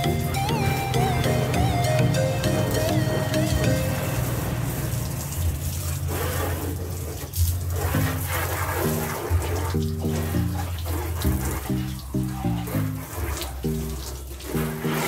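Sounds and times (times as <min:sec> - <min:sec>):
background music with bass: 0:00.0 - 0:05.0, 0:07.4 - 0:15.0
hose water spraying on car: 0:00.0 - 0:15.0.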